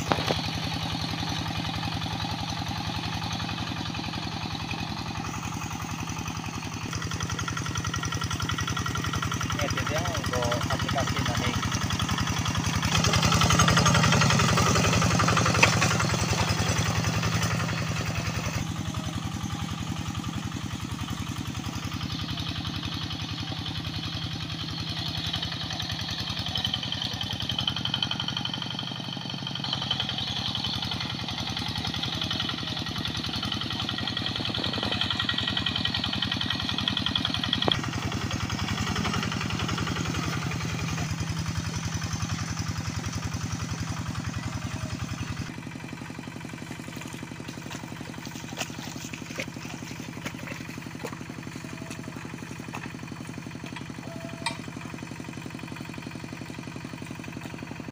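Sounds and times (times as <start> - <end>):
diesel engine running under load: 0.0 - 57.9.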